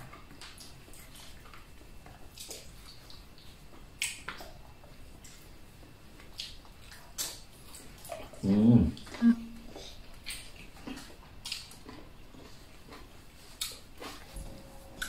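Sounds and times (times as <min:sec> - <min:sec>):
people chewing: 0:00.0 - 0:15.0.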